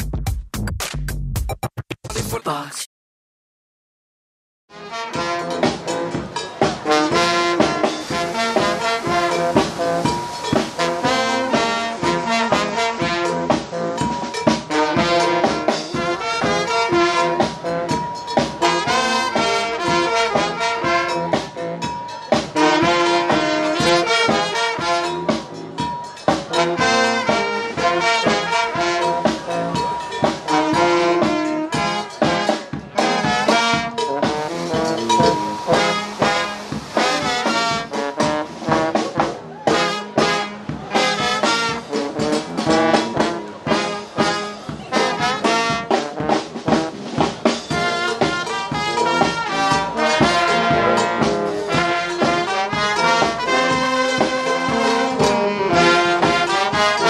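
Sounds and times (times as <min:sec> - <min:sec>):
brass band playing swing music: 0:04.7 - 0:57.0.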